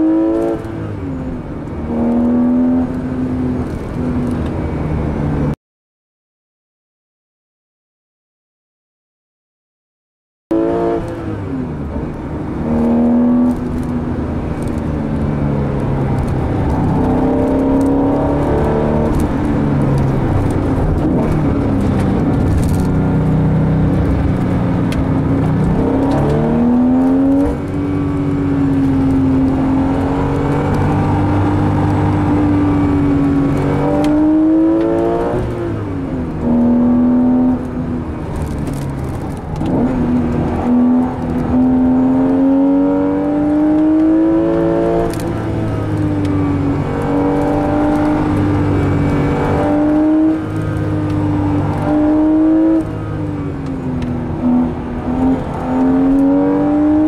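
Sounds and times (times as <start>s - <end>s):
car engine revving through gears: 0.0s - 5.5s, 10.5s - 57.0s.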